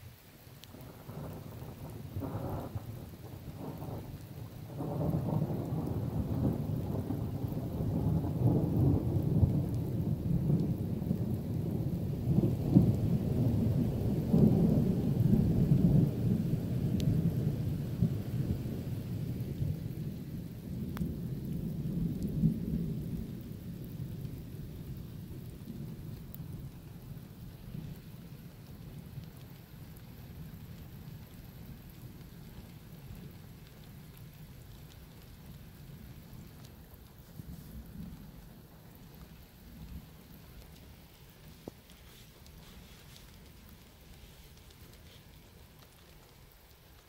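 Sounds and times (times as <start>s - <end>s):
thunder rumbling: 0.6s - 47.0s.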